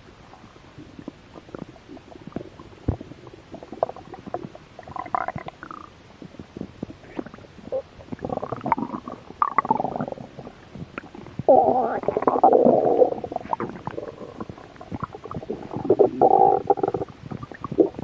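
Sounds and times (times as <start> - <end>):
stomach growling and gurgling: 0.2 - 18.0.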